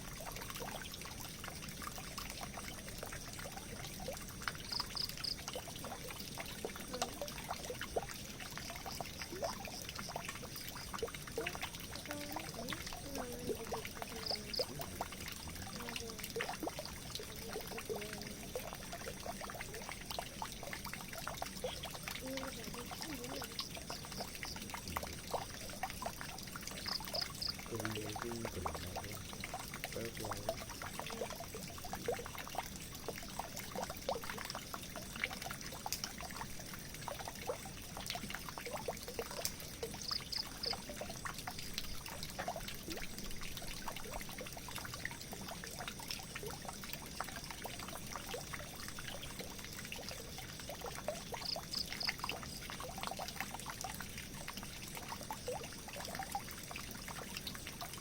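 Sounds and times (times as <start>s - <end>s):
water pouring into a drain: 0.0s - 58.0s.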